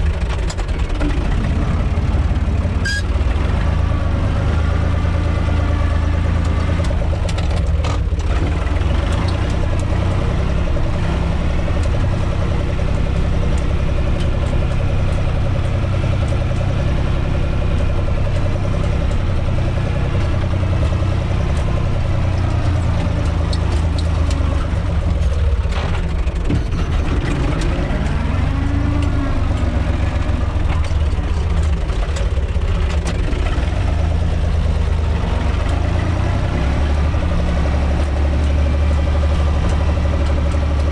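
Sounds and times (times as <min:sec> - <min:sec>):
knocks and rattles: 0:00.0 - 0:40.9
tractor diesel engine running: 0:00.0 - 0:40.9.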